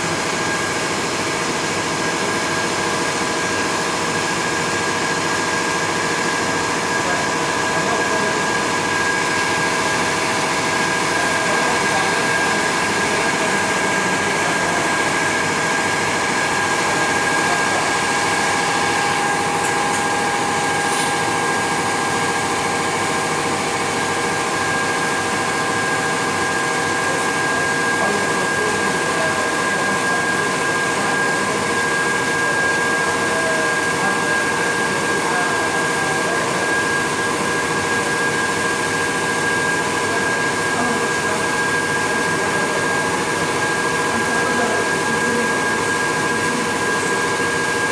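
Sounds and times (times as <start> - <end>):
machine whirring drone: 0.0 - 47.9.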